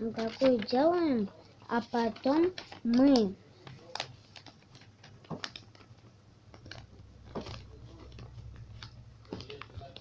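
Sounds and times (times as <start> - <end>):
low steady hum: 0.0 - 10.0
paper being folded: 0.0 - 10.0.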